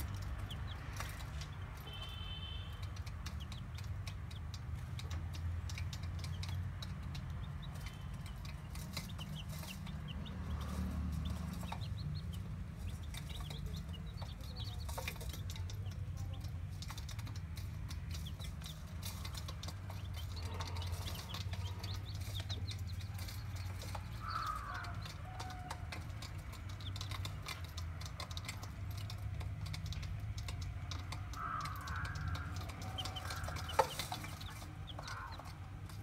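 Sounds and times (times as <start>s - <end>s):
birds clucking softly: 0.0s - 36.0s.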